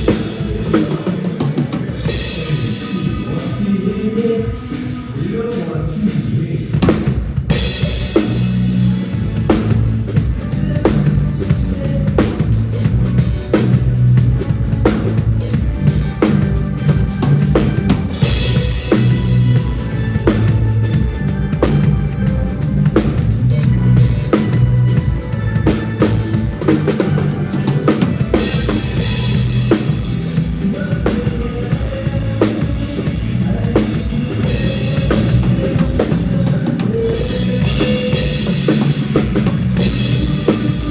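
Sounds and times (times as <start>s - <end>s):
bass line: 0.0s - 40.9s
drum kit beat with cymbals: 0.0s - 40.9s.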